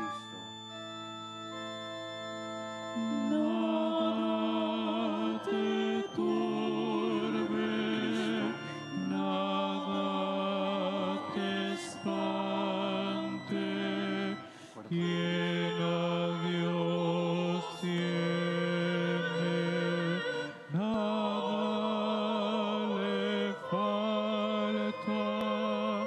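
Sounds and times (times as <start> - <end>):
organ chords: 0.0 - 26.0
person singing a hymn: 0.0 - 26.0.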